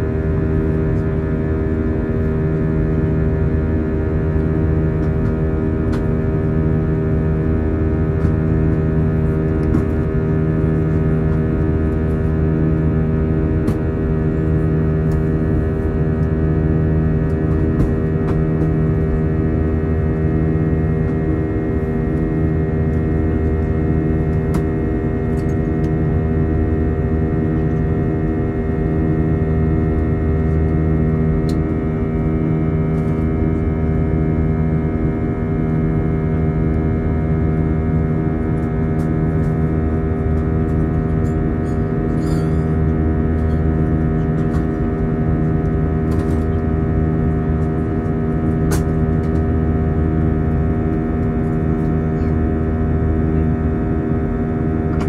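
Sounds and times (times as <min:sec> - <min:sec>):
jet engine drone in cabin: 0:00.0 - 0:55.0
steady engine tones: 0:00.0 - 0:55.0.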